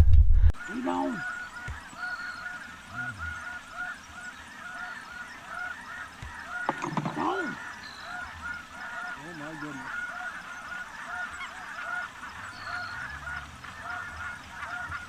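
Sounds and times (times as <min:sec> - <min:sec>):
snow goose honking: 0:00.6 - 0:15.0.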